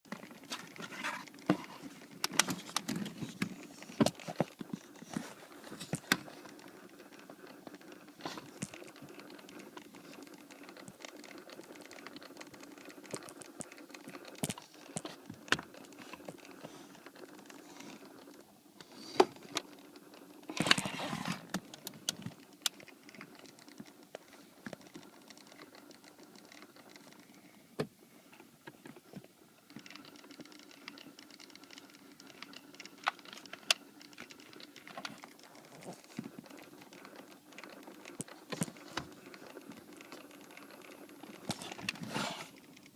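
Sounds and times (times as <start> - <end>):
faint steady hum: 0.1 - 42.9.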